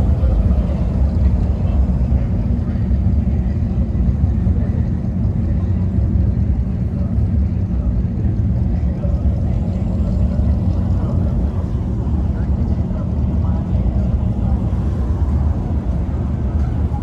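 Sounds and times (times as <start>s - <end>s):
car engine rumbling: 0.0s - 5.4s, 8.7s - 17.0s.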